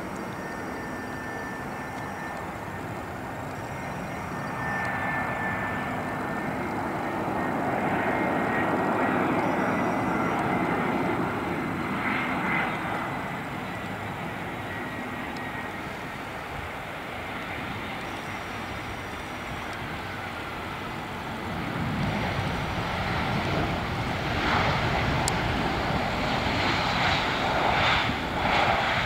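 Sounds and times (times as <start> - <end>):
jet engine rushing: 0.0 - 29.0.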